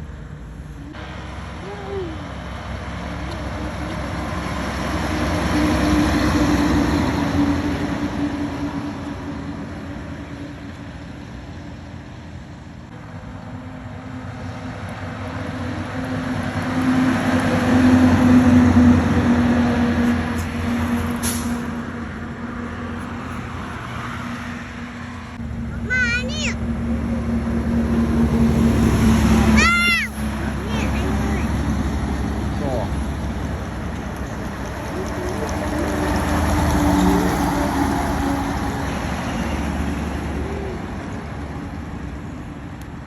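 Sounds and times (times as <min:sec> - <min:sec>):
heavy vehicles driving past: 0:00.0 - 0:43.0.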